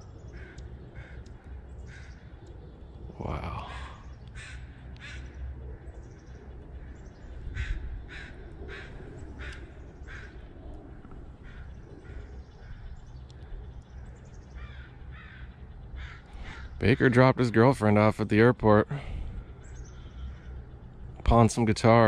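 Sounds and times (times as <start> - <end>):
bird calling: 0.0 - 22.0
low steady rumble: 0.0 - 22.0.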